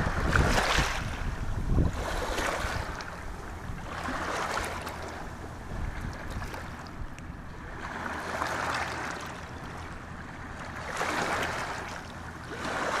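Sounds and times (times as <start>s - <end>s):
sea waves washing against rocks: 0.0s - 9.8s, 10.4s - 13.0s.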